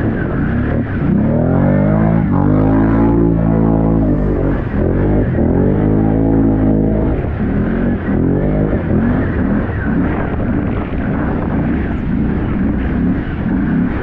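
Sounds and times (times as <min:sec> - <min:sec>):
atv engine revving: 0:00.0 - 0:14.0
steady rushing noise: 0:00.0 - 0:14.0.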